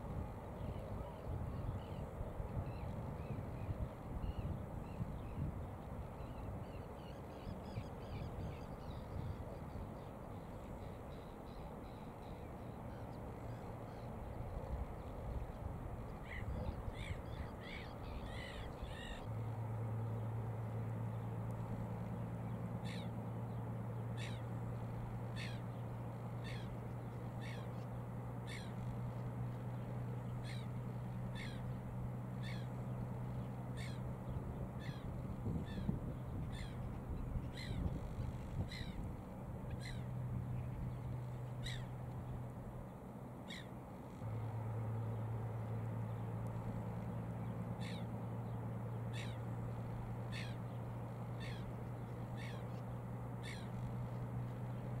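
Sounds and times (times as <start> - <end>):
steady low hum: 0.0 - 55.0
bird calling: 6.2 - 19.3, 22.1 - 42.5, 43.4 - 44.2, 45.0 - 55.0.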